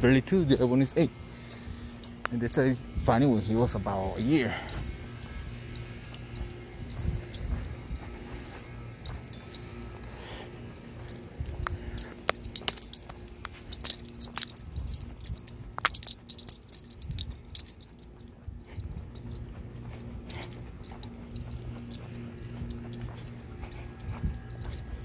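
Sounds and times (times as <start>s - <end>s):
steady low hum: 0.0s - 25.0s
small metal pieces jingling: 0.2s - 2.8s, 3.6s - 25.0s.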